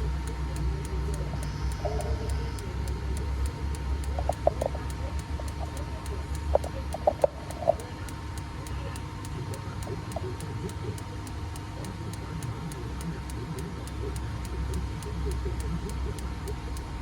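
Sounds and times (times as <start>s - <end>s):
faint even ticking: 0.0s - 17.0s
low electrical hum: 0.0s - 17.0s.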